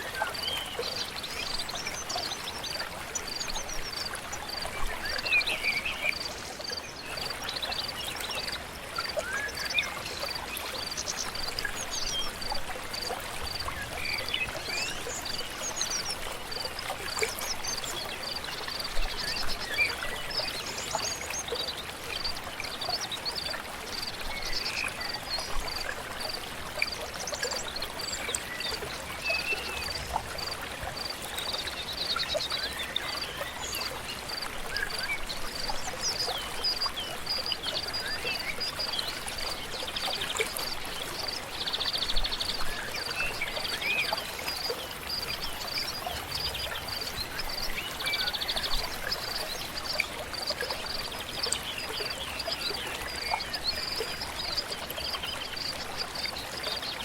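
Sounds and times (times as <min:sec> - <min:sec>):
flowing stream: 0:00.0 - 0:57.0.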